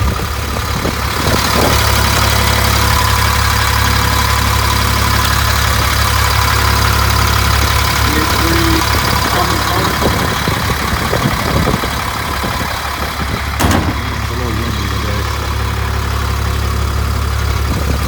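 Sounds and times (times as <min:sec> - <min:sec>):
diesel bus engine idling: 0:00.0 - 0:18.0.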